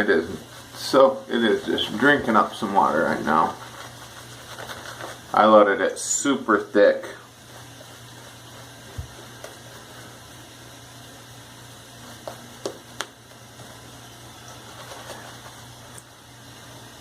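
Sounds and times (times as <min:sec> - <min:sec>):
shaving brush swishing lather: 0:00.0 - 0:14.0.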